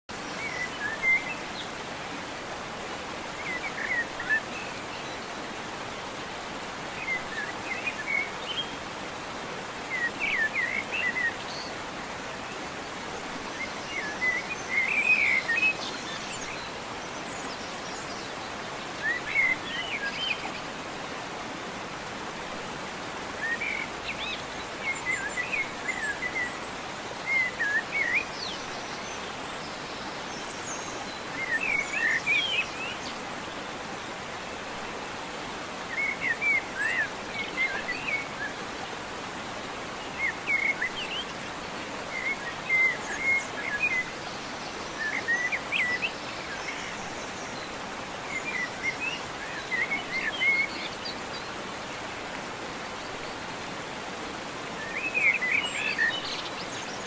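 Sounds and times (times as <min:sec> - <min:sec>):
steady outdoor hiss: 0:00.1 - 0:57.0.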